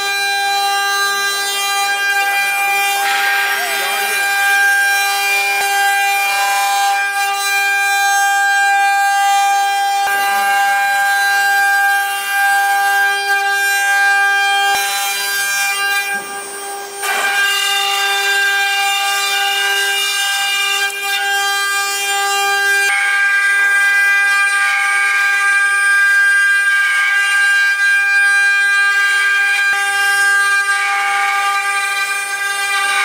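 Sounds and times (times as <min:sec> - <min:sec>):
router spindles whining: 0:00.0 - 0:27.2
cutters carving wood: 0:00.0 - 0:33.0.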